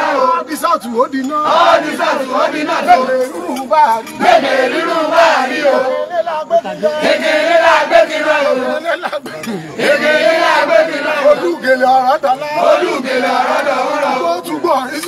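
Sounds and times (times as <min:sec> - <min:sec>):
crowd singing and chanting: 0:00.0 - 0:15.0.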